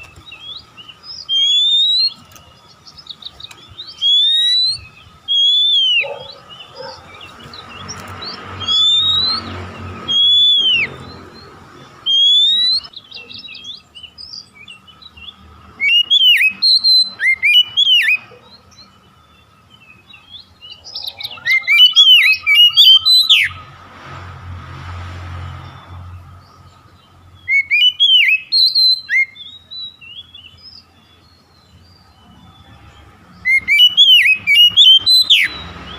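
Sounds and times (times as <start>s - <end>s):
bird singing whistled notes: 0.0s - 23.8s, 25.4s - 35.9s.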